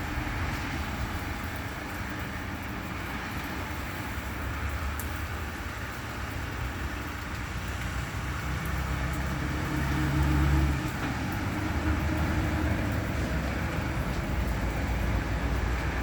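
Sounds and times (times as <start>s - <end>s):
hiss of rain or wet road: 0.0s - 16.0s.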